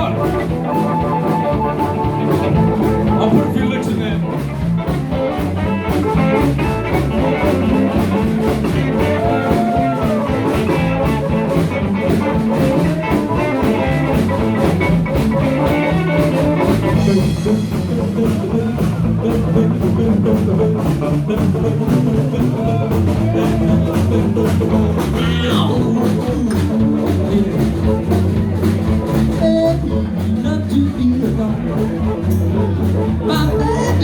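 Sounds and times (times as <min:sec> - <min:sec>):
lead guitar licks: 0:00.0 - 0:34.0
live band playing blues: 0:00.0 - 0:34.0.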